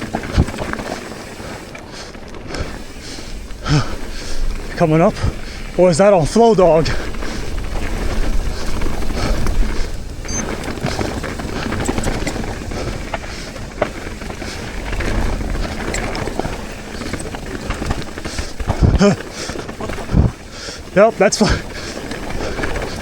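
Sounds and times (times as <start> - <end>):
bike clicks and rattles: 0.0 - 23.0
tyre and wind rush: 0.0 - 23.0.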